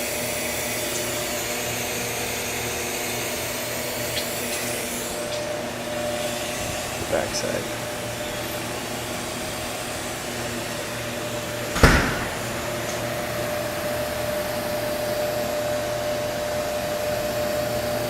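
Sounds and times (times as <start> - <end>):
grinding machine hum: 0.0 - 18.0.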